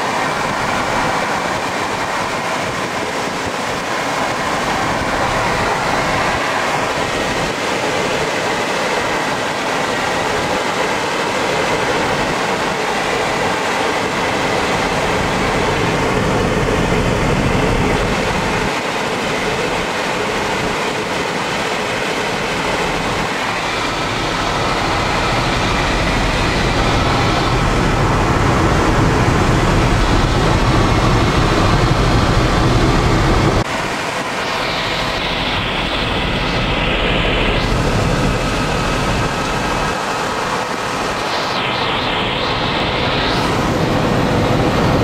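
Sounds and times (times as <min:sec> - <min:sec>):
helicopter engine and rotor noise: 0:00.0 - 0:45.0.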